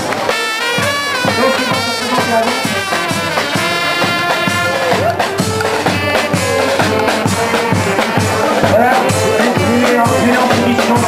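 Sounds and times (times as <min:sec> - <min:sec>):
brass band playing: 0:00.0 - 0:11.0
drum beat: 0:00.0 - 0:11.0.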